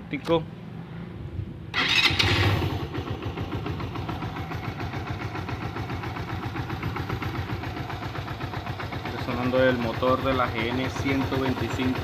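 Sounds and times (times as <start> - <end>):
motorcycle engine idling: 1.7 - 12.0.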